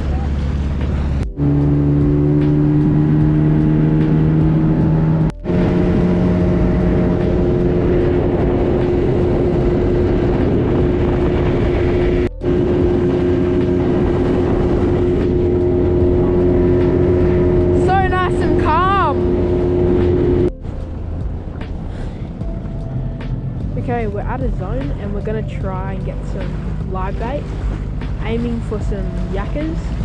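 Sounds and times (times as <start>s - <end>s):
outboard motor running: 0.0s - 30.0s
water and wind noise: 0.0s - 30.0s.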